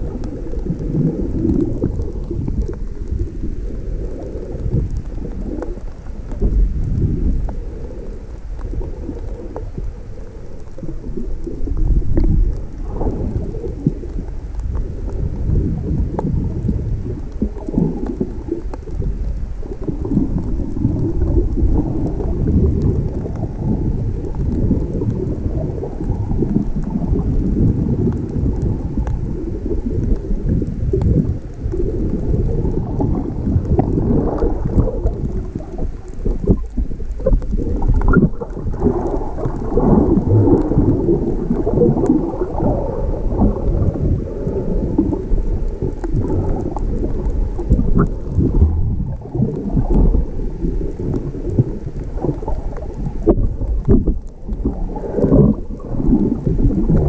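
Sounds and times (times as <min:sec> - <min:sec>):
stormy surf: 0:00.0 - 0:57.0
wind on microphone: 0:00.0 - 0:57.0.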